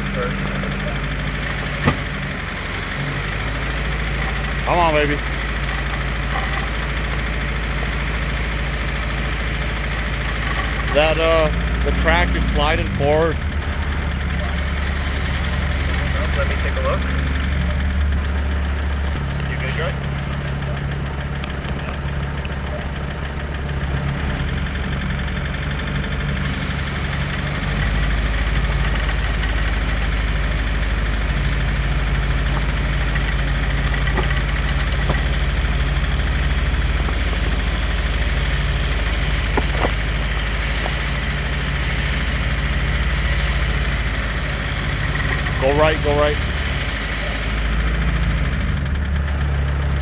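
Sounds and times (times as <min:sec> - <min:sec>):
vehicle engine idling: 0:00.0 - 0:50.0.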